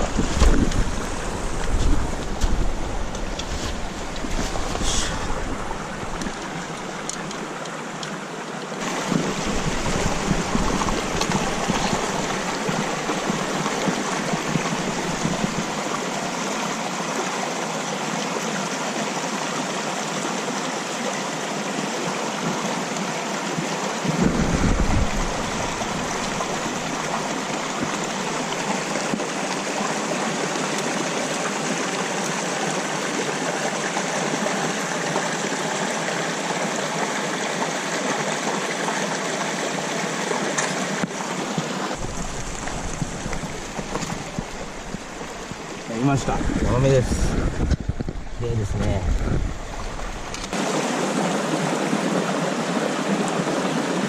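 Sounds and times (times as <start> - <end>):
stream rushing water: 0.0 - 54.0.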